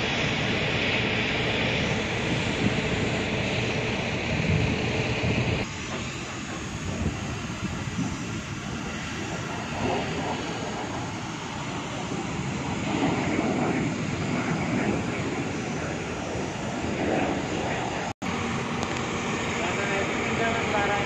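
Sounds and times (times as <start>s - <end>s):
construction site rumble: 0.0s - 21.0s.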